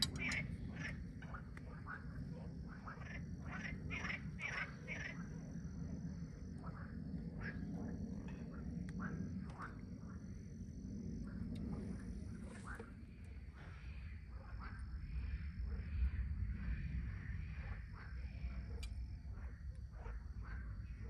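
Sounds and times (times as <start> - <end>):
frogs croaking: 0.0 - 21.0
low steady rumble: 0.0 - 21.0.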